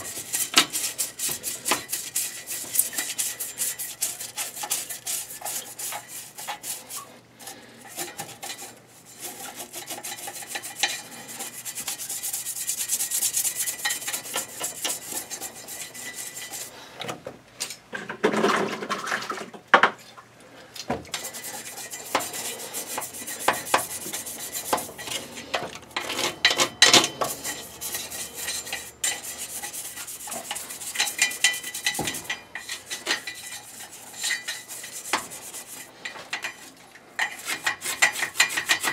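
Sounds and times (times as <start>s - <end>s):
brush scrubbing metal: 0.0s - 16.8s, 21.1s - 38.9s
scrapes and knocks: 0.0s - 17.2s, 20.9s - 38.9s.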